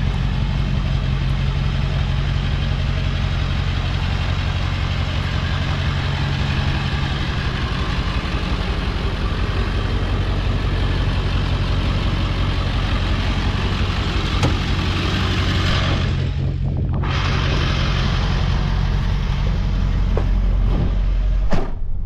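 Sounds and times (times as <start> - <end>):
diesel engine idling: 0.0 - 21.5.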